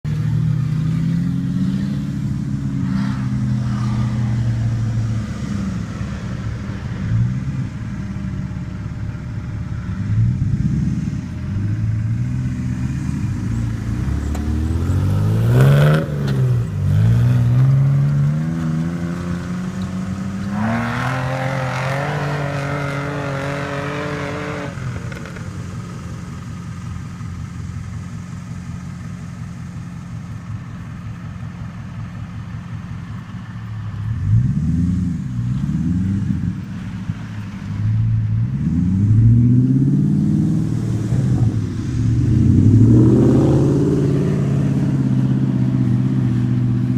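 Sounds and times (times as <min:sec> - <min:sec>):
off-road vehicle engine revving: 0:00.0 - 0:46.9.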